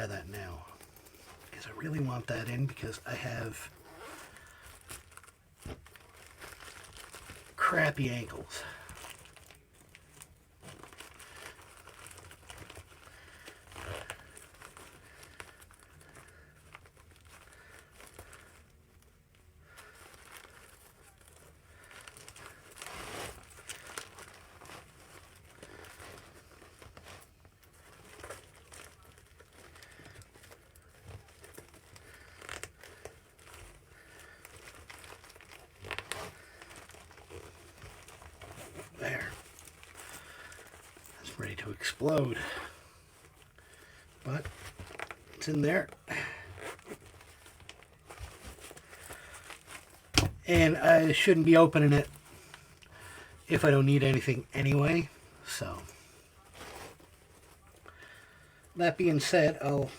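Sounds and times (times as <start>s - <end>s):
plastic wrapping crinkling: 0.0s - 59.9s.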